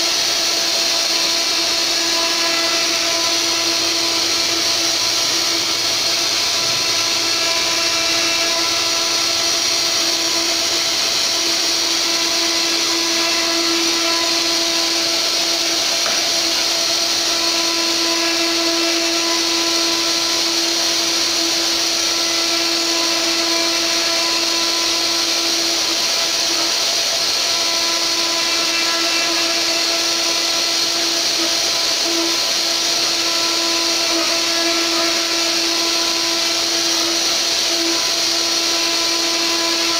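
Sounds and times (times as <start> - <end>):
bit cutting wood hiss: 0.0 - 39.9
router spindle whine: 0.0 - 39.9.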